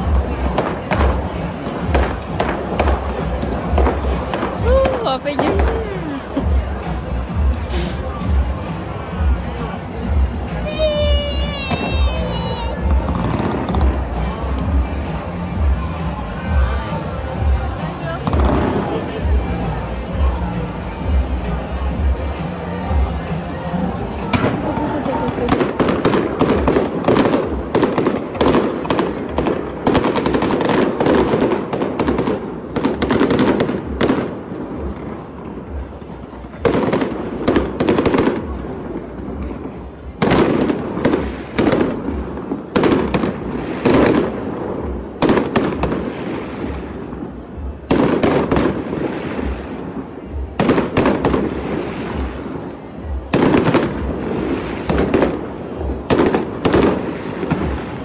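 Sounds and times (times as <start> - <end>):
fireworks bursting and crackling: 0.0 - 17.0, 24.2 - 58.0.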